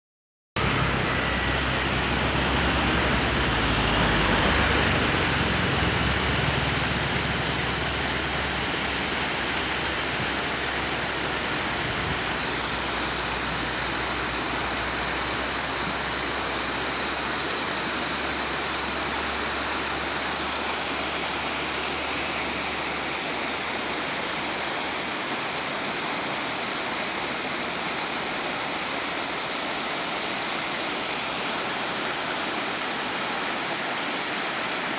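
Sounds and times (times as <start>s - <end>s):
river water rushing: 0.6s - 34.9s.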